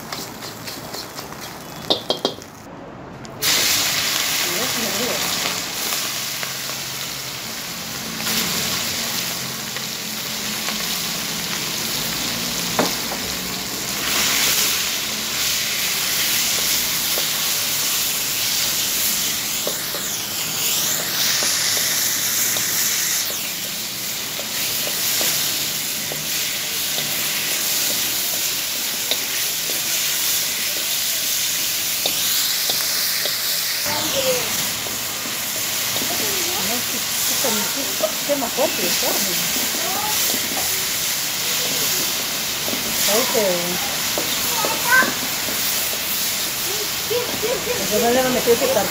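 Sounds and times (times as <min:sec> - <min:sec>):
food sizzling in hot oil: 0:00.0 - 0:02.7, 0:03.4 - 0:48.9.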